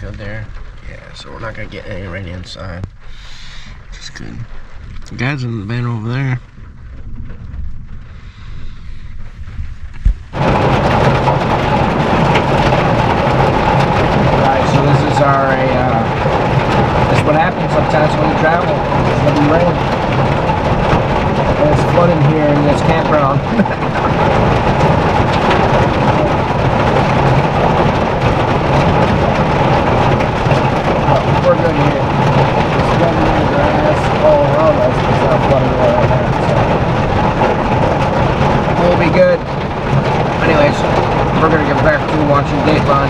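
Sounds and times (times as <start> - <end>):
heavy rain drumming on a roof: 0.0 - 43.0.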